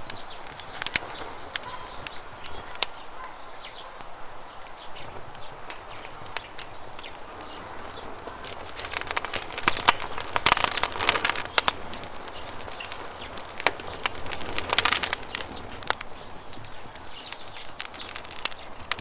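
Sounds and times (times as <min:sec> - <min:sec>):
steady background hiss: 0:00.0 - 0:19.0
wood fire crackling: 0:00.0 - 0:19.0.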